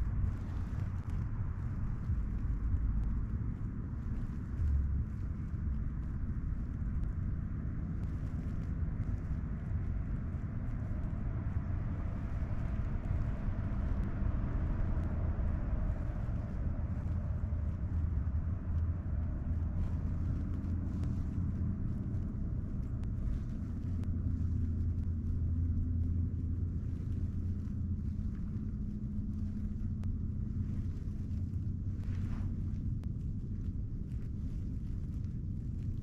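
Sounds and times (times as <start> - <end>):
faint hum: 0.0 - 36.0
low outdoor rumble: 0.0 - 36.0.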